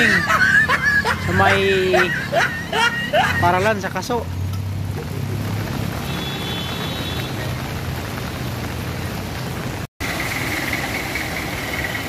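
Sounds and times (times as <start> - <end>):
heavy rain falling: 0.0 - 12.0
vehicle engine humming: 0.0 - 12.0.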